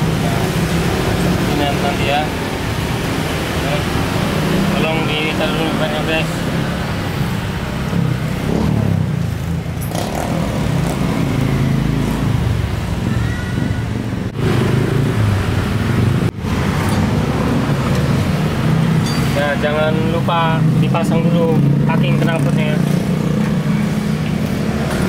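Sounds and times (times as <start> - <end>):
low rumble of vehicle engines: 0.0 - 25.0.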